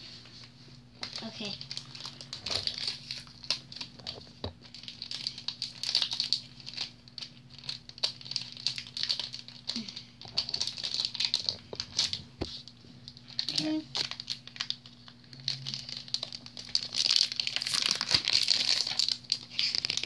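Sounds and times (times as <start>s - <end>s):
foil packet crinkling: 1.0s - 20.0s.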